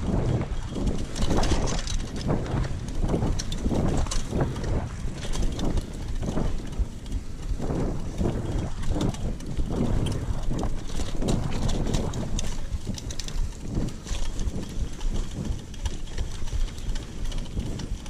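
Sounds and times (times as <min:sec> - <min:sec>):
bike rattling over bumps: 0:00.0 - 0:18.0
wind rumbling on microphone: 0:00.0 - 0:18.0.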